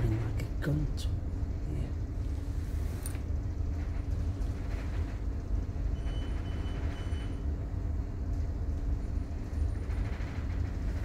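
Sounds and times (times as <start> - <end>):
low rumble of ship engines: 0.0 - 11.0.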